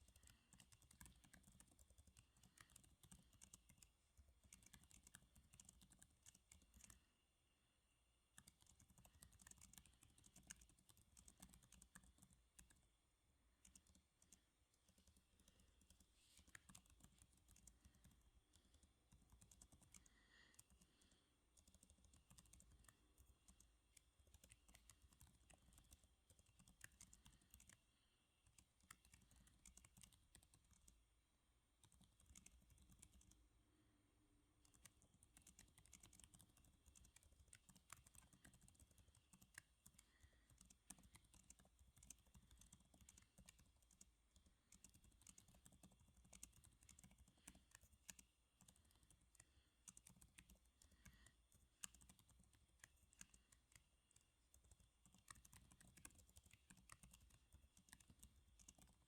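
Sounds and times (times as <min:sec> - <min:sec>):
typing on computer keyboard: 0:00.0 - 0:07.1, 0:08.3 - 0:12.9, 0:13.6 - 0:31.0, 0:31.8 - 0:33.4, 0:34.6 - 0:59.0.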